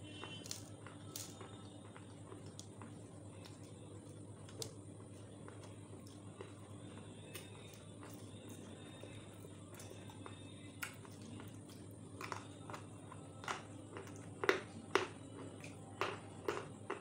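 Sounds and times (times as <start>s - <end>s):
low background hum: 0.0s - 17.0s
teeth crunching a hard stick: 0.2s - 8.8s, 9.7s - 17.0s.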